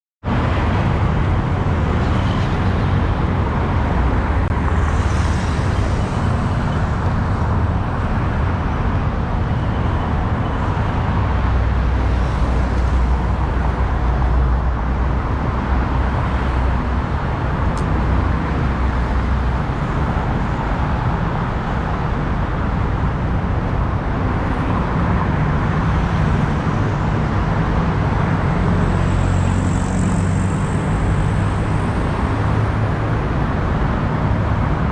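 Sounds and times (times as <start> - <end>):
surrounding traffic: 0.2 - 34.9
motorbike engine and road noise: 0.3 - 34.9.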